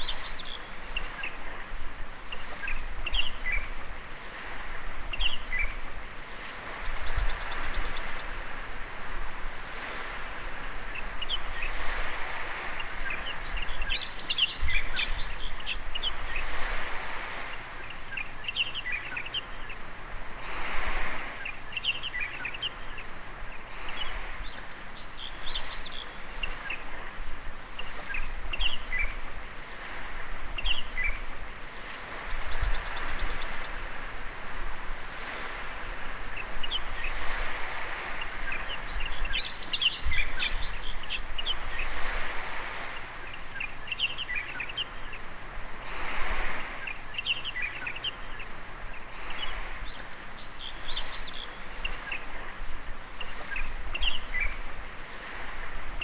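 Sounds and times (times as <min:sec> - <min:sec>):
birds chirping: 0:00.0 - 0:56.0
small waves washing onto beach: 0:00.0 - 0:56.0.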